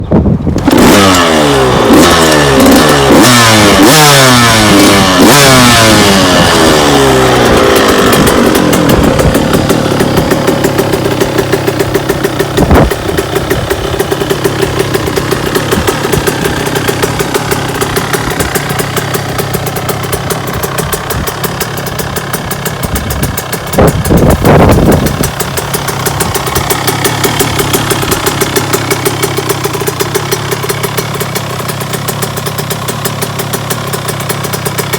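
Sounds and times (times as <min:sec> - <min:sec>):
dirt bike engine revving: 0:00.5 - 0:34.9.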